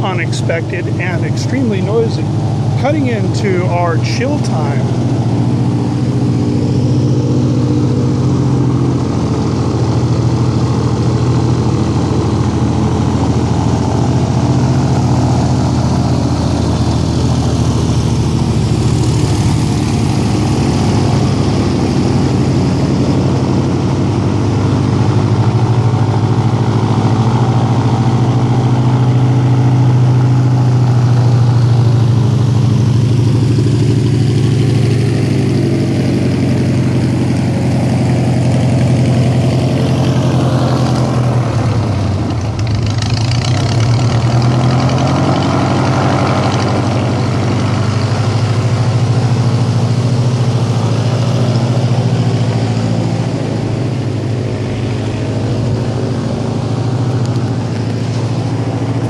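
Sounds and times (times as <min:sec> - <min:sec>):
airboat engine and fan humming: 0:00.0 - 0:59.0.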